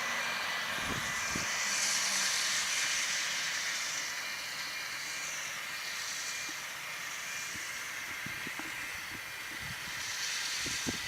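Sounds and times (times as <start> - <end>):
steam train hiss: 0.0 - 11.0.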